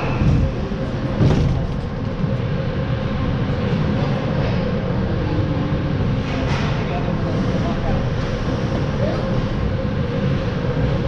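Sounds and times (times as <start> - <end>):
ice arena rumble: 0.0 - 11.0.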